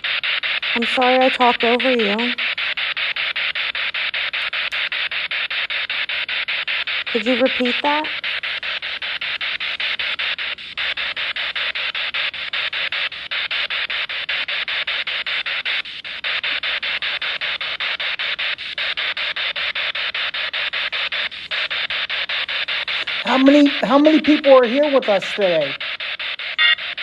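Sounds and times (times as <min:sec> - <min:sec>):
static hiss: 0:00.0 - 0:27.0.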